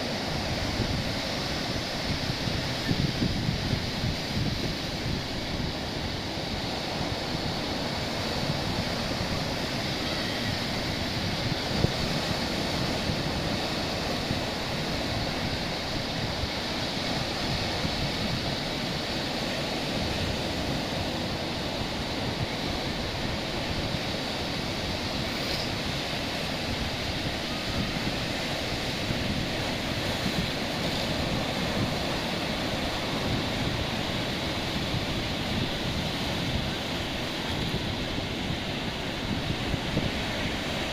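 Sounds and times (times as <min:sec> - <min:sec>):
ocean waves washing on beach: 0:00.0 - 0:40.9
wind on microphone: 0:00.0 - 0:40.9.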